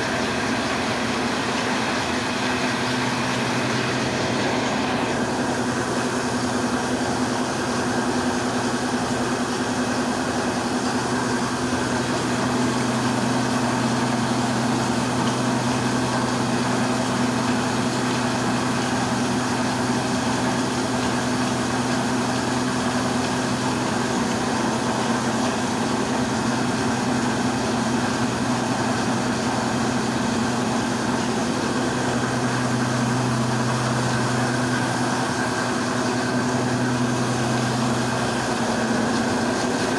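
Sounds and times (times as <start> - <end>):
stone flour mill running: 0.0 - 39.9.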